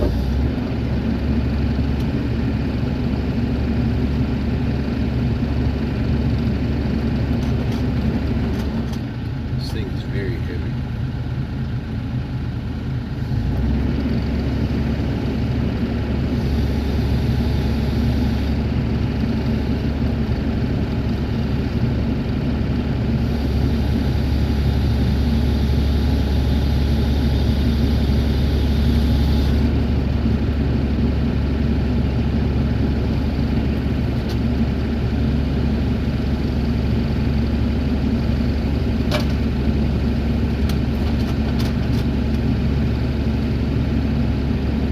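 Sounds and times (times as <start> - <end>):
excavator diesel engine droning: 0.0 - 44.9.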